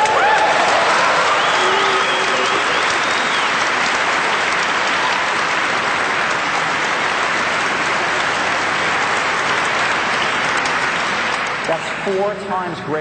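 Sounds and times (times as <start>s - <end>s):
large audience applauding: 0.0s - 12.4s.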